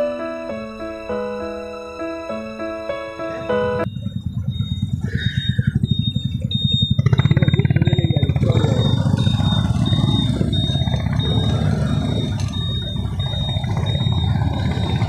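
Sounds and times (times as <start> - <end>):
road noise: 0.0 - 15.0
scooter engine drone: 0.0 - 15.0.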